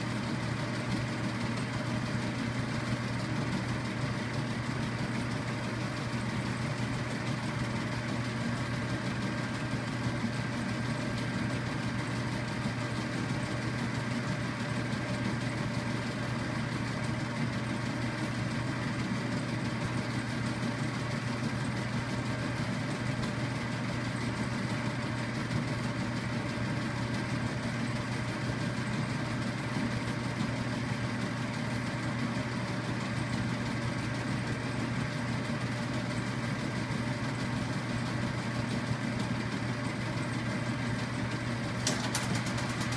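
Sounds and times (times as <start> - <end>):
motor hum: 0.0 - 42.9.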